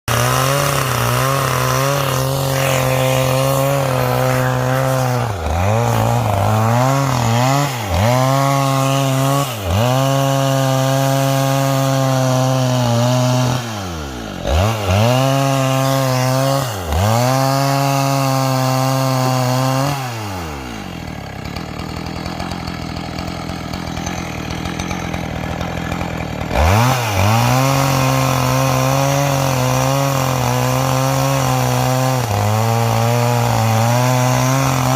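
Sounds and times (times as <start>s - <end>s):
chainsaw ripping through wood: 0.0s - 34.9s.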